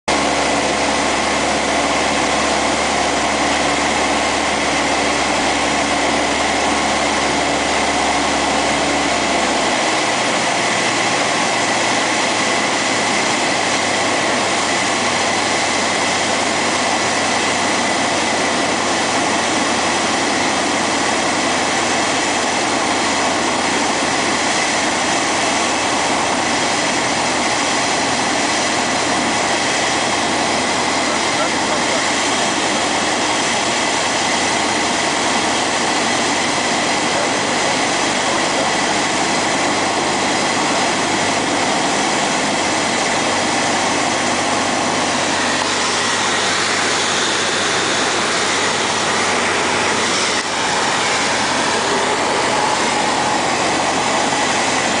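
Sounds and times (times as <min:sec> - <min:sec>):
airplane engine and propeller: 0:00.1 - 0:55.0.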